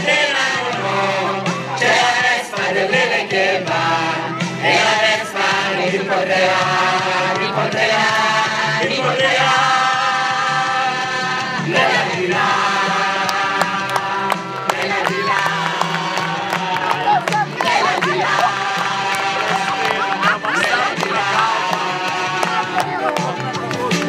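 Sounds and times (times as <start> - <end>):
group singing chorus: 0.0 - 23.4
backing track with bass line: 0.0 - 24.0.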